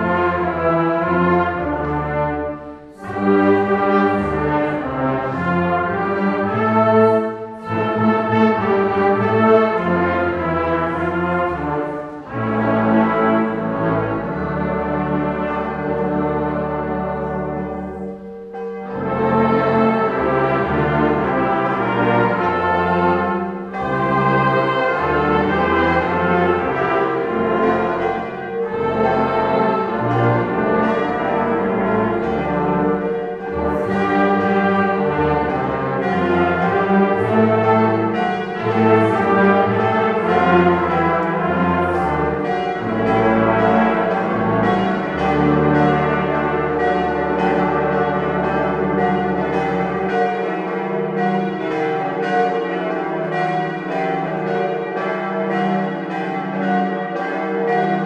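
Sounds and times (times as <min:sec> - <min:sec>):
brass choir playing a hymn: 0:00.0 - 0:58.0
church bells ringing: 0:00.0 - 0:58.0.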